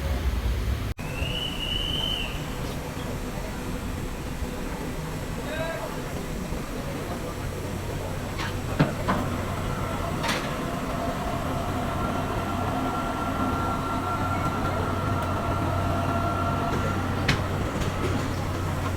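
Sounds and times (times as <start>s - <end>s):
ferry engine droning: 0.0s - 18.9s.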